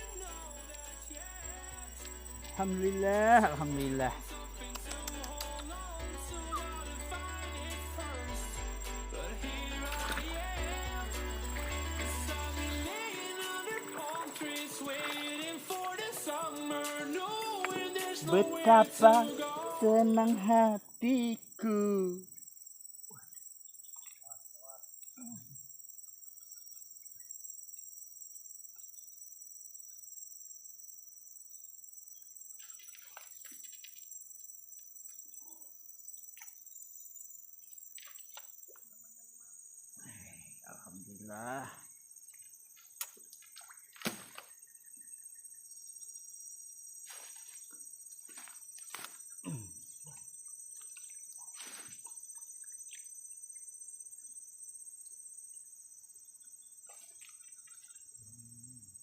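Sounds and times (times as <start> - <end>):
crickets and insects chirping: 0.0 - 59.0.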